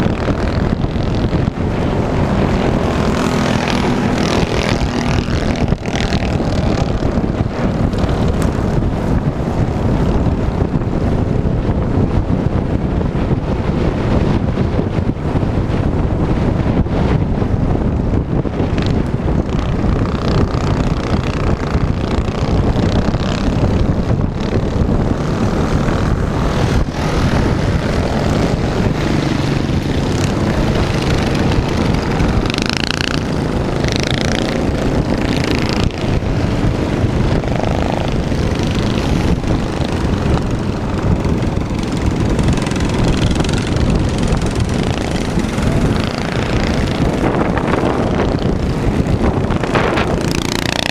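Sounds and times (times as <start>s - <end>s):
minibike engines running: 0.0s - 16.4s, 17.7s - 50.9s
wind buffeting microphone: 0.0s - 50.9s.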